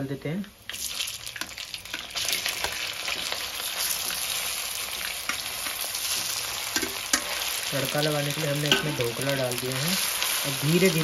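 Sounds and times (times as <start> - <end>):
food sizzling in hot oil: 0.4 - 11.0.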